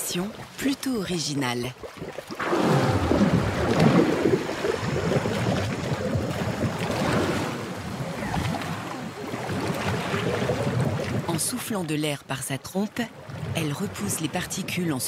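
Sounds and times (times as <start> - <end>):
water bubbling and gurgling: 0.0 - 15.0.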